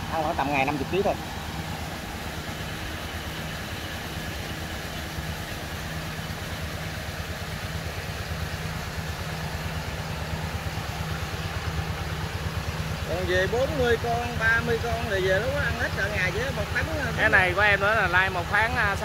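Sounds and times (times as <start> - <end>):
engine running with pulsing hum: 0.0 - 19.0.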